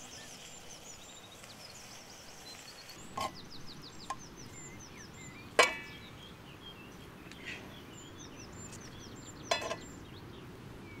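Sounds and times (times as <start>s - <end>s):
small birds chirping: 0.0s - 11.0s
steady outdoor hiss: 0.0s - 11.0s.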